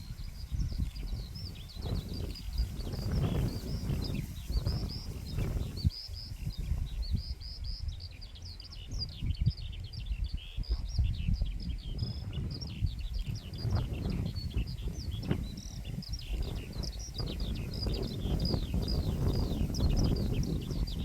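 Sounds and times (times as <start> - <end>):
small bird singing: 0.0 - 21.0
wind rumble on microphone: 0.0 - 21.0.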